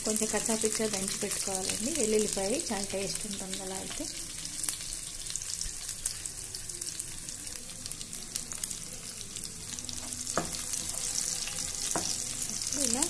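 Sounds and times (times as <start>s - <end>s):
garlic and seeds sizzling in oil: 0.0s - 13.0s.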